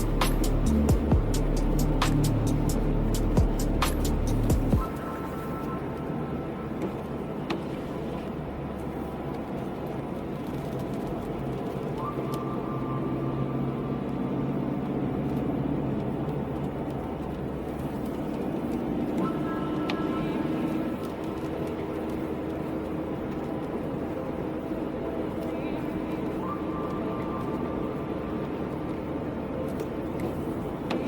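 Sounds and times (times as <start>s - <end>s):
car engine and road noise: 0.0s - 31.0s
engine whine: 0.0s - 31.0s.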